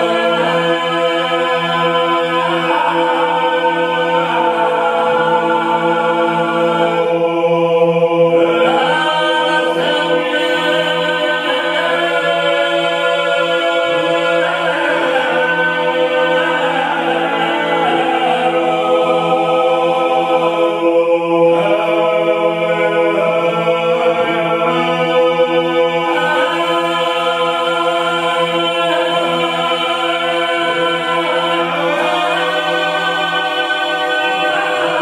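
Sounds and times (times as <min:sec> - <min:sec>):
choir singing polyphony: 0:00.0 - 0:35.0.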